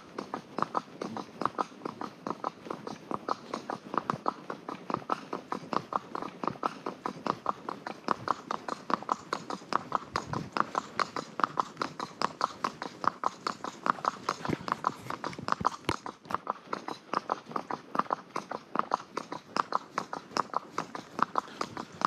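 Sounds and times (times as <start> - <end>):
horse hooves clip-clopping: 0.0 - 22.0.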